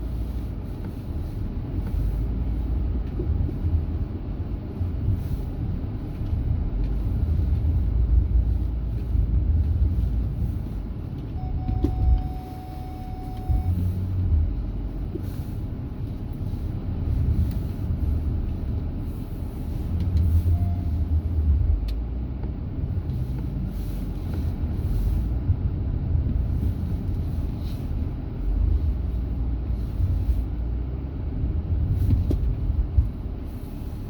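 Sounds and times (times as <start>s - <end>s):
low vehicle rumble: 0.0s - 34.0s.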